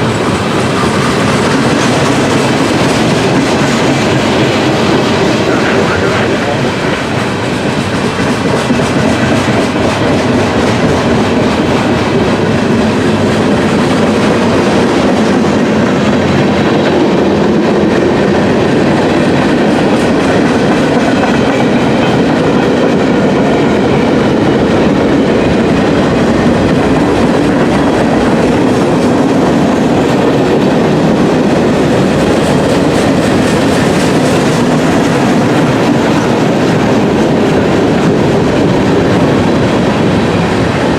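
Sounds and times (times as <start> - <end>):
train wheels clickety-clack: 0.0 - 40.9.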